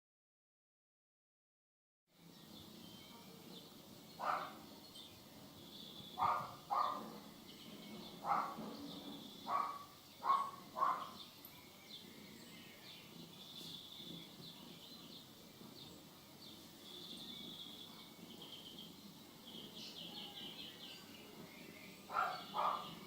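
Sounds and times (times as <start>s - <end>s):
birds chirping: 2.2s - 23.0s.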